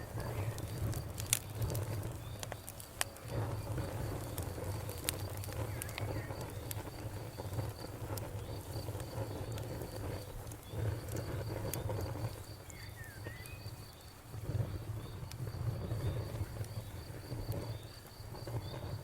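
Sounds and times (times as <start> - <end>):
campfire crackling and popping: 0.0 - 19.0
cricket chirping: 0.0 - 19.0.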